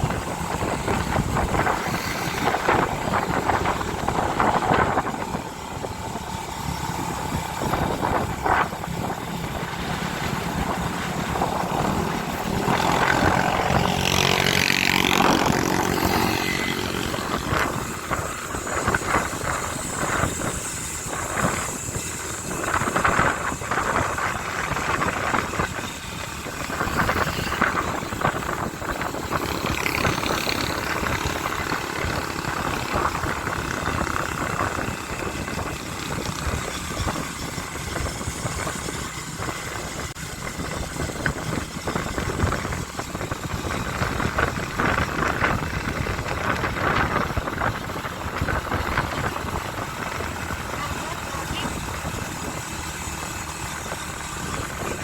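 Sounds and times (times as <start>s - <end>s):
motorcycle engine running: 0.0s - 55.0s
wind noise on microphone: 0.0s - 55.0s.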